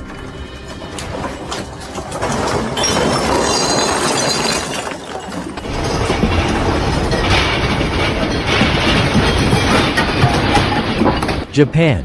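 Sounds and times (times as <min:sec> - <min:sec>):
ceiling panels rattling: 0:00.0 - 0:11.5.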